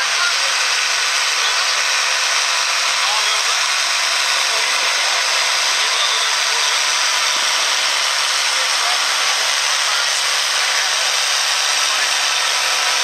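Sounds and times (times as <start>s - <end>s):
tractor diesel engine under full load: 0.0s - 13.0s.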